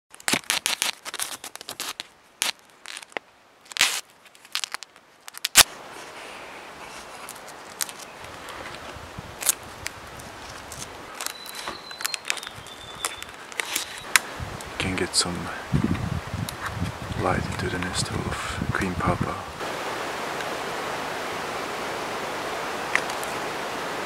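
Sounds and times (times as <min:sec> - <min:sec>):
outdoor background hiss: 0:00.1 - 0:24.0.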